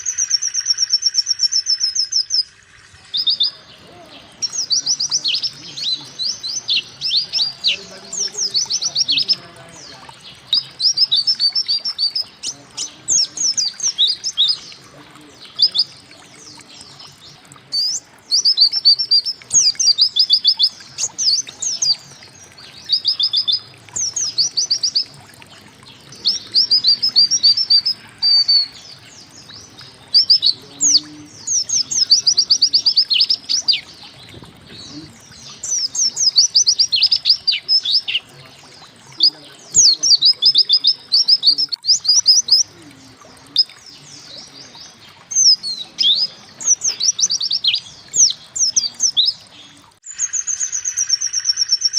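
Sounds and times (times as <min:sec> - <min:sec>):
bird singing high downward notes: 0:00.0 - 0:51.9.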